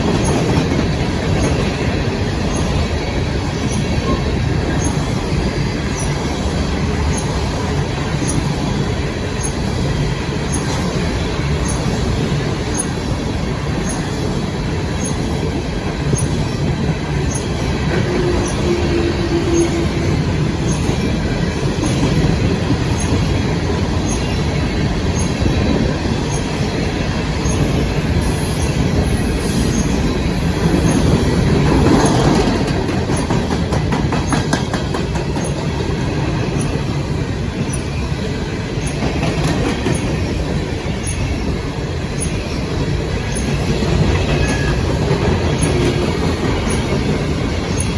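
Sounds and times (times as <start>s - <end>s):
freight train rumbling on rails: 0.0s - 47.9s.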